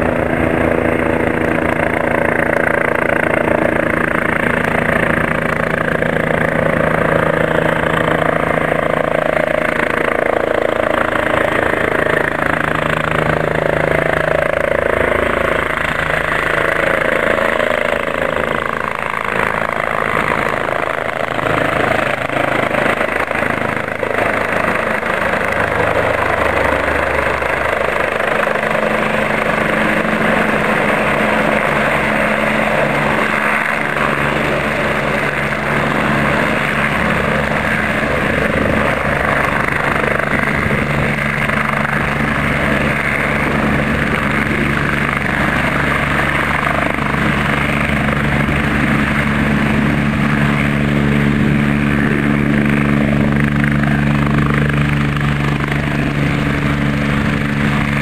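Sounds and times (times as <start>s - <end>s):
helicopter rotor and engines: 0.0s - 58.0s.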